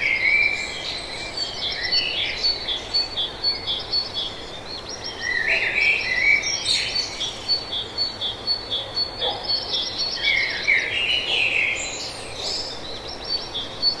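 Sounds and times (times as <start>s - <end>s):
bird warbling song: 0.0s - 14.0s.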